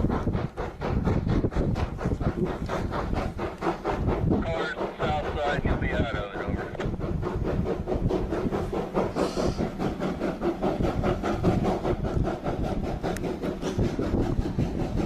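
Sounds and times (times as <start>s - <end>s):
train pushing through snow: 0.0s - 15.0s.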